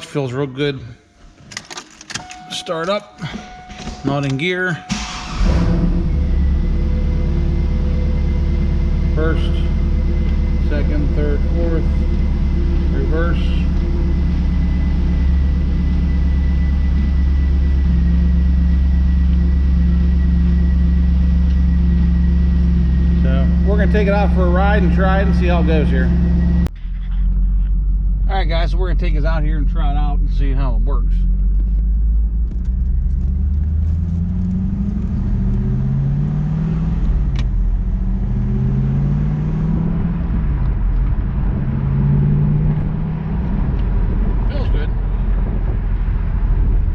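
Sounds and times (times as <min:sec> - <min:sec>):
car engine idling: 0:02.4 - 0:46.9.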